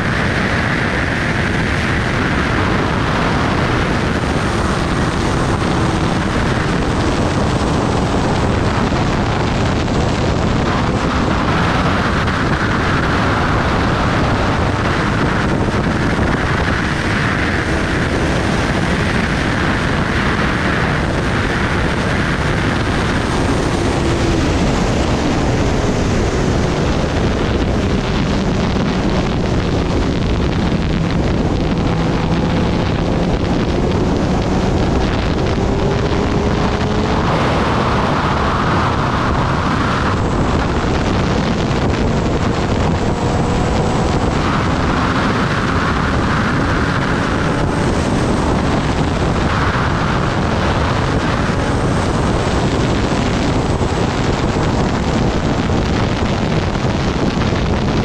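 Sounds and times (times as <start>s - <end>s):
motorcycle engine running: 0.0s - 58.0s
wind rushing: 0.0s - 58.0s.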